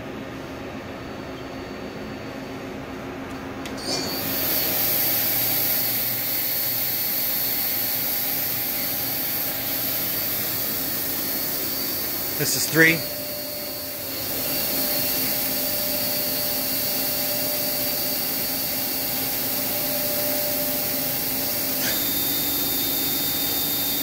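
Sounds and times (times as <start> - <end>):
machine spindle whirring hum: 0.0 - 24.0.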